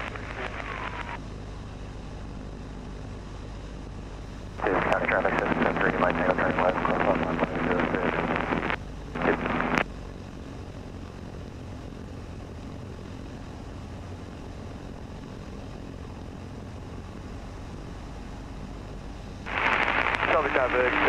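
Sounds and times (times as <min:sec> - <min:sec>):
airplane engine and propeller droning: 0:00.0 - 0:21.0.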